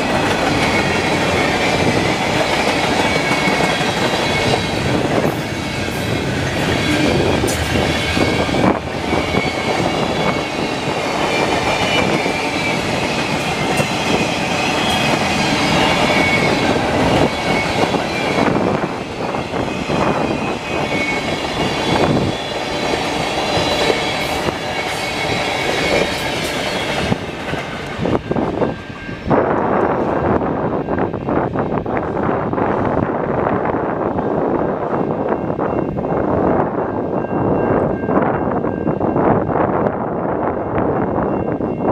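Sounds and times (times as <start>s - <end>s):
freight cars rumbling on rails: 0.0s - 41.9s
wind buffeting microphone: 0.0s - 41.9s.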